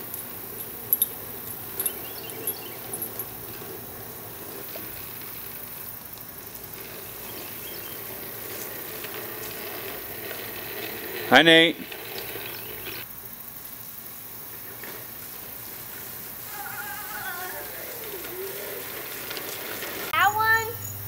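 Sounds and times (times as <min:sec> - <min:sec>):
toy lawn mower rolling over grass: 0:00.0 - 0:13.1, 0:13.7 - 0:20.6.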